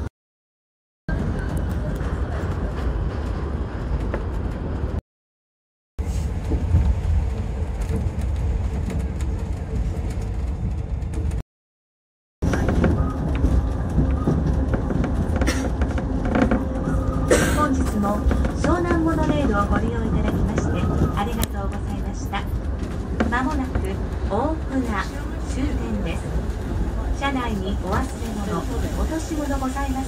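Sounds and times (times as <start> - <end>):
monorail car low rumble: 1.1 - 5.0, 6.0 - 11.4, 12.4 - 30.0.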